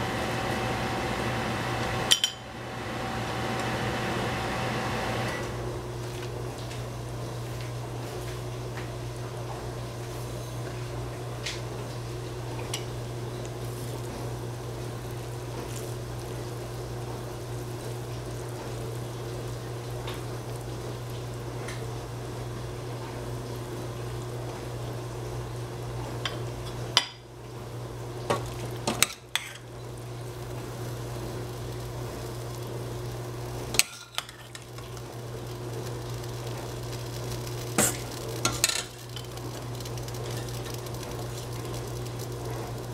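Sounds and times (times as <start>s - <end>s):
low kitchen hum: 0.0s - 42.9s.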